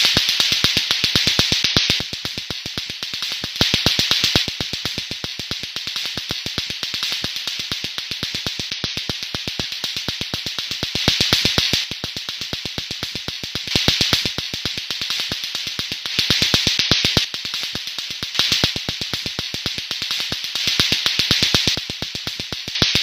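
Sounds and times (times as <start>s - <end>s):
clacker toy balls clacking: 0.0s - 23.0s
hiss: 0.0s - 23.0s.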